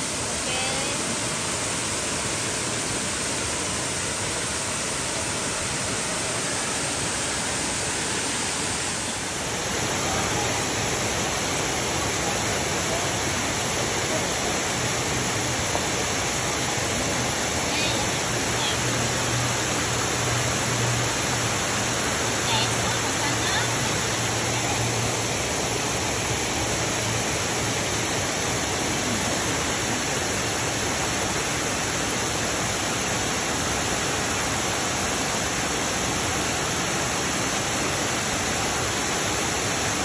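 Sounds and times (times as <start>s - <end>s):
running water rushing: 0.0s - 40.0s.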